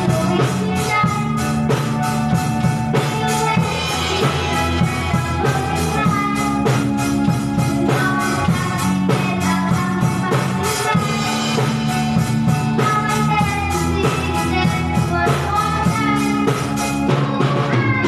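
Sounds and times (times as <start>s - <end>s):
drum kit beat: 0.0s - 18.0s
girl singing into microphone: 0.0s - 18.0s
synthesizer keyboard: 0.0s - 18.0s.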